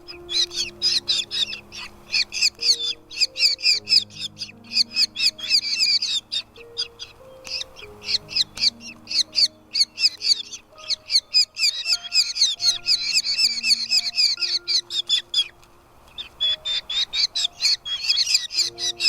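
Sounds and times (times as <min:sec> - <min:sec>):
background music low notes: 0:00.0 - 0:19.0
nestling birds chirping: 0:00.0 - 0:19.0.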